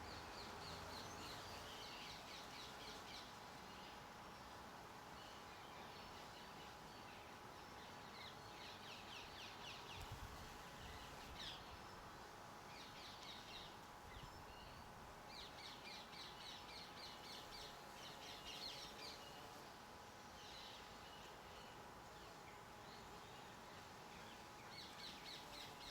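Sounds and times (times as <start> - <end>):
garden birds calling: 0.0 - 25.9.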